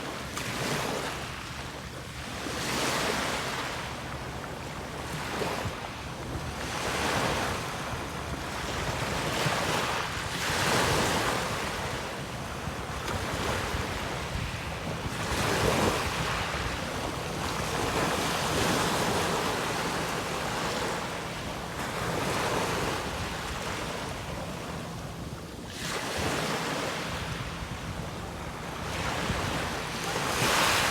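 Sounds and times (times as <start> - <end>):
sea waves breaking on shore: 0.0 - 30.9.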